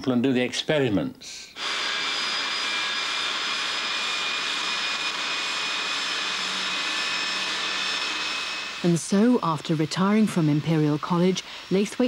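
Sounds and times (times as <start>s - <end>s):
high whining tones: 1.6s - 12.0s
machine hiss: 1.6s - 12.0s.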